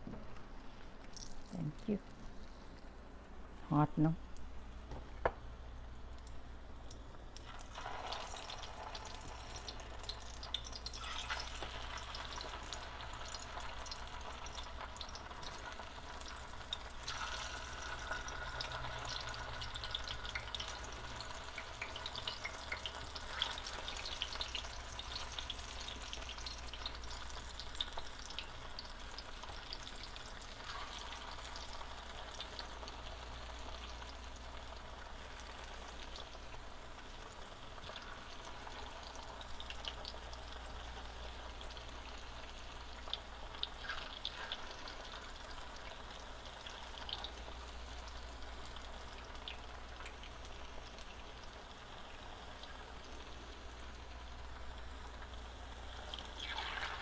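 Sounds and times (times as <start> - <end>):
food frying in oil: 0.7 - 57.0.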